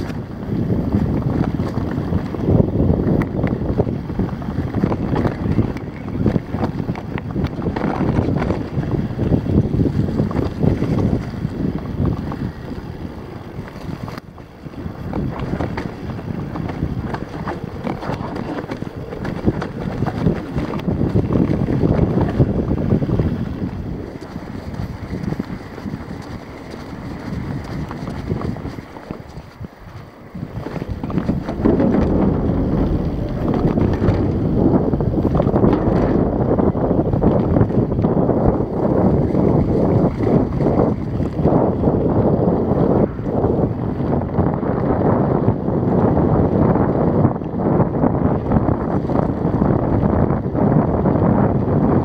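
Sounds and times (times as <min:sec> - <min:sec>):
bike rattling over stones: 0:00.0 - 0:42.4
wind buffeting microphone: 0:00.0 - 0:52.0.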